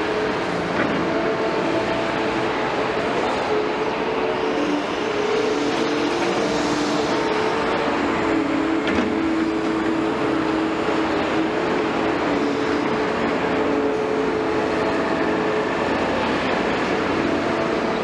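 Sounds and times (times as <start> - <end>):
excavator diesel engine and hydraulics: 0.0 - 18.0
machine whine: 0.0 - 18.0.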